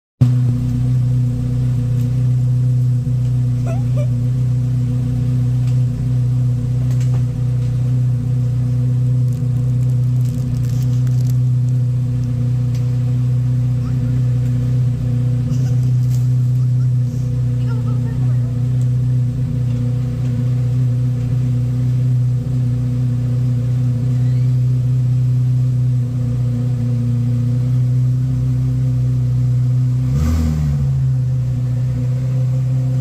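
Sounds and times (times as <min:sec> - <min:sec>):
car engine idling: 0:00.2 - 0:33.0.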